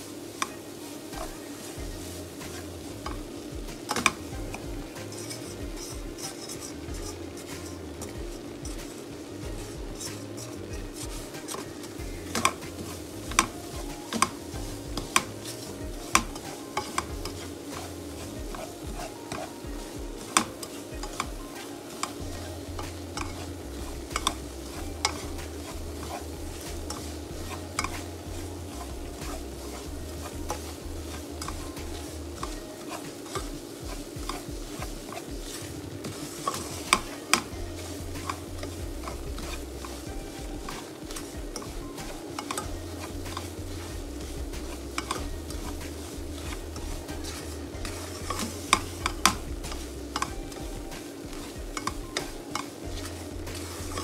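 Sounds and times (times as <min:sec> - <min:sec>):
light sizzle: 0:00.0 - 0:54.0
spatula scraping a pan: 0:00.0 - 0:54.0.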